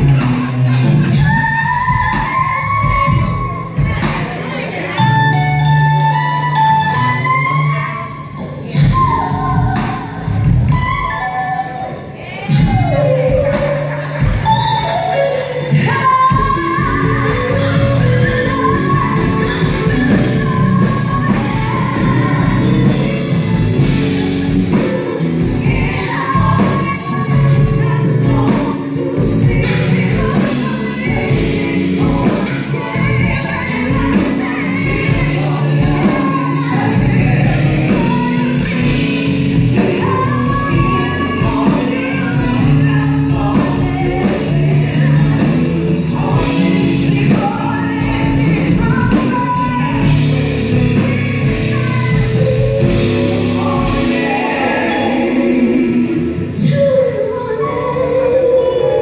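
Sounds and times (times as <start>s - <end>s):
live band playing: 0.0s - 59.0s
woman singing lead: 0.0s - 59.0s
backing singers: 6.9s - 59.0s.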